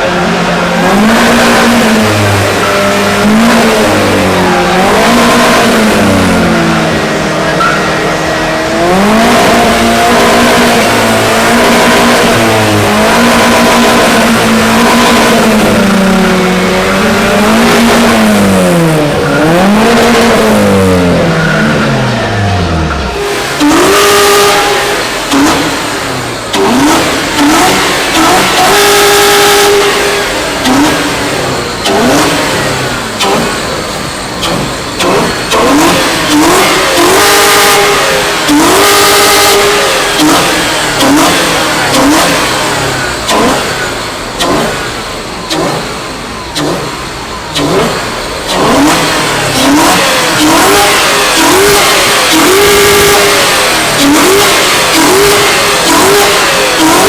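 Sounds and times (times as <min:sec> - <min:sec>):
car engines revving: 0:00.0 - 0:57.0
short engine blips: 0:00.0 - 0:57.0.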